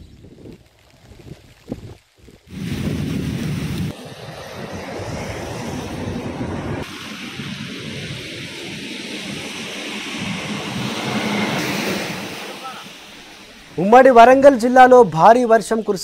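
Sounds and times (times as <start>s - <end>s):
wind on microphone: 0.0s - 13.9s.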